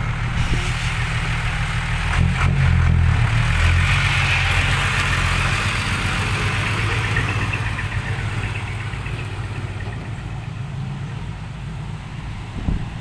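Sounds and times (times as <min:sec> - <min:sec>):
diesel truck engine at low revs: 0:00.0 - 0:13.0.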